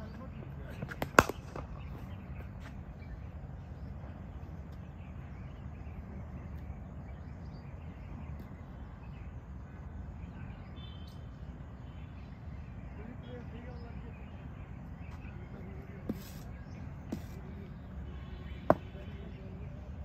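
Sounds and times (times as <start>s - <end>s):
faint bird chirps: 0.0s - 20.0s
low outdoor rumble: 0.0s - 20.0s.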